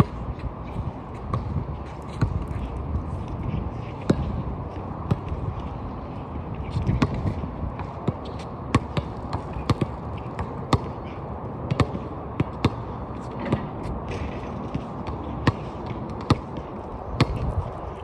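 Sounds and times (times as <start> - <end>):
basketballs dribbling on court: 0.0 - 18.0.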